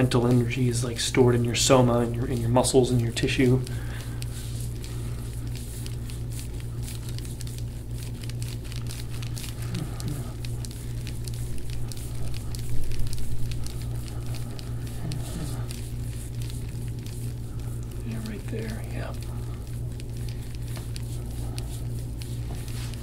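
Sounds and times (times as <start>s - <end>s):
steady low hum: 0.0s - 23.0s
fine crackling clicks: 1.4s - 23.0s.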